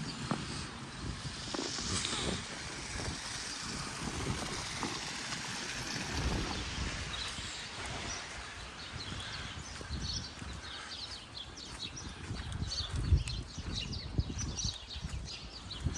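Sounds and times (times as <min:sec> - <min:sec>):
wind rumbling on microphone: 0:00.0 - 0:15.9
small birds chirping: 0:01.9 - 0:15.9.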